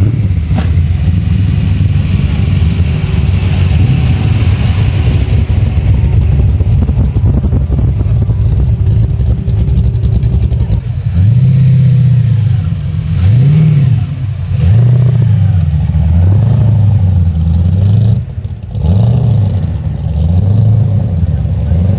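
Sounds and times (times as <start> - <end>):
supercharged engine revving: 0.0 - 21.9.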